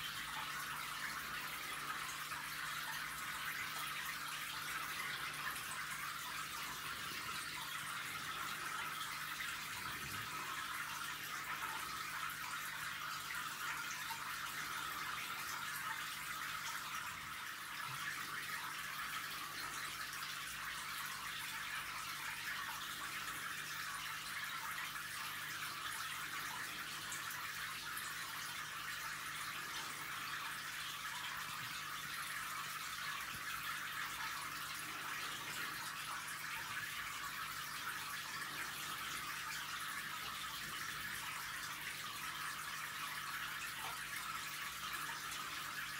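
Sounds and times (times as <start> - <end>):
aquarium water running: 0.0 - 45.9.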